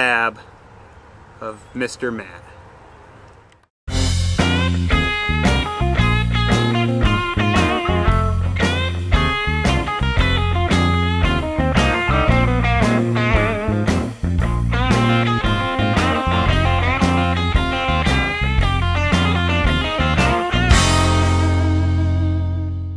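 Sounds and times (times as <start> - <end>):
guitar-led rock music: 3.9 - 22.9.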